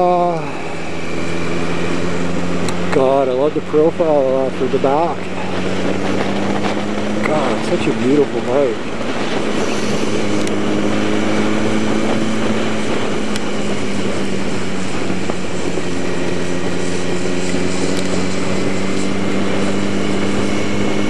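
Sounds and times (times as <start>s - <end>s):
motorcycle engine cruising: 0.0s - 21.0s
wet road noise: 0.0s - 21.0s
wind rush: 0.0s - 21.0s.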